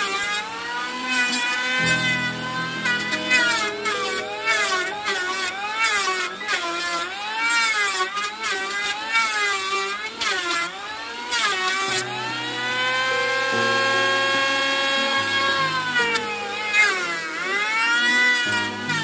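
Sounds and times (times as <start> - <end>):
electric planer whining: 0.0 - 19.0.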